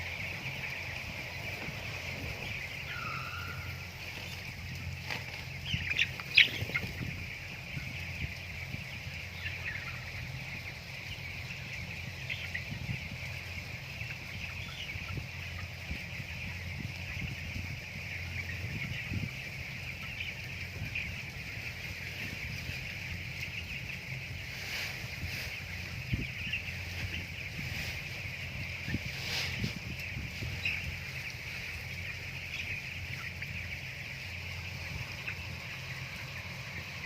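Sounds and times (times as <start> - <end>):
chickens cheeping: 0.0 - 37.0.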